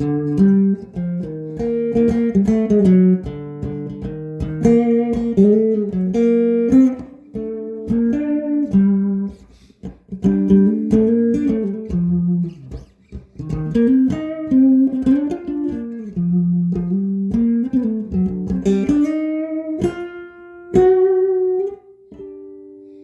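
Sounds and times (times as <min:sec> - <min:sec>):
electric guitar melody: 0:00.0 - 0:23.0.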